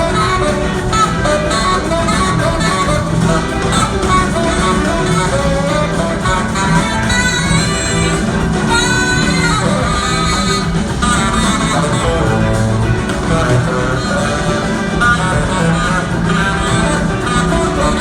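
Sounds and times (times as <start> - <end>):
electric guitar: 0.0 - 18.0
rock band playing live: 0.0 - 18.0.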